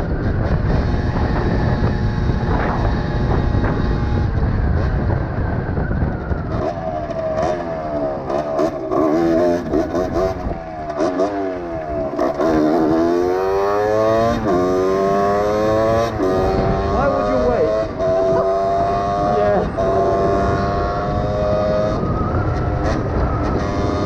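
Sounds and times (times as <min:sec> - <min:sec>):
motorcycle engine revving: 0:00.0 - 0:24.0
wind rumble on microphone: 0:00.0 - 0:24.0.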